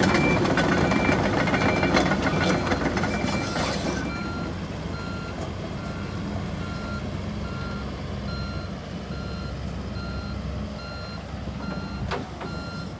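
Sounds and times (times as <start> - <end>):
diesel engine running: 0.0 - 12.9
backup alarm beeping: 0.1 - 12.9.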